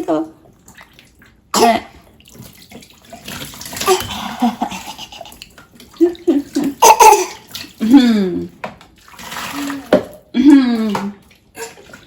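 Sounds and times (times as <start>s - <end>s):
water splashing in a bath: 0.0s - 12.0s.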